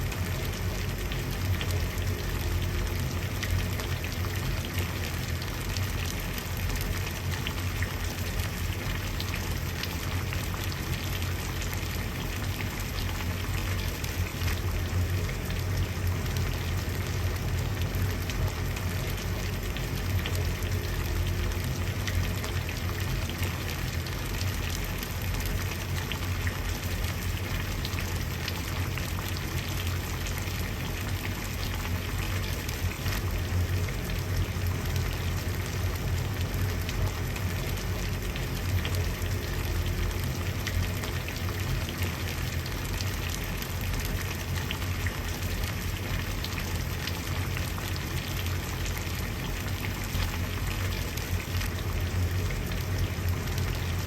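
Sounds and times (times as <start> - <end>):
water boiling and bubbling: 0.0 - 54.0.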